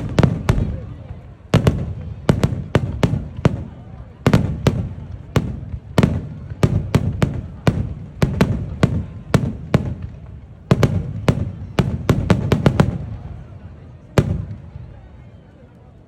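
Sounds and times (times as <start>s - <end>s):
fireworks bangs: 0.0s - 14.8s.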